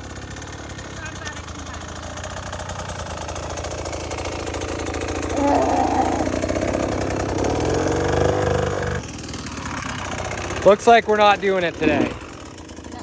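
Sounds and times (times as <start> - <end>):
dirt bike engine revving: 0.3 - 13.0.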